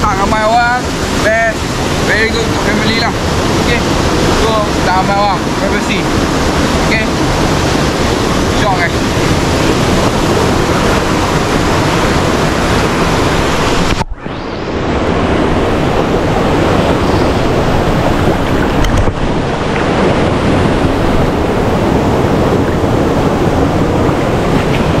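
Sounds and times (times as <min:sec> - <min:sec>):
stream rushing over rocks: 0:00.0 - 0:14.2, 0:15.2 - 0:25.0.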